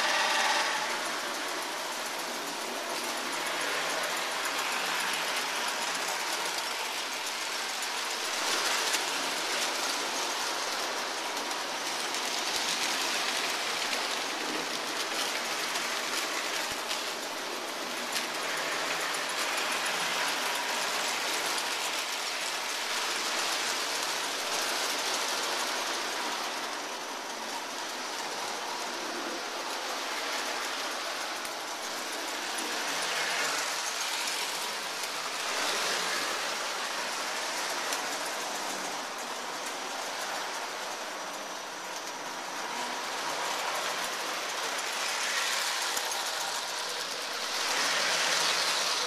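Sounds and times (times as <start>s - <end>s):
model trains running on track: 0.0s - 49.0s.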